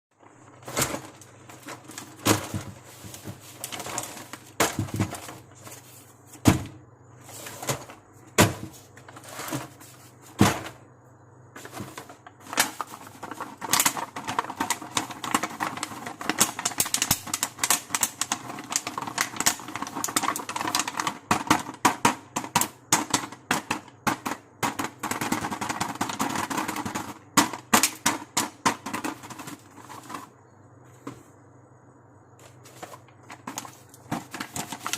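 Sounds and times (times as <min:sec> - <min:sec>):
plastic packaging clicking and crinkling: 0:00.2 - 0:10.8, 0:11.6 - 0:30.3, 0:32.4 - 0:34.9.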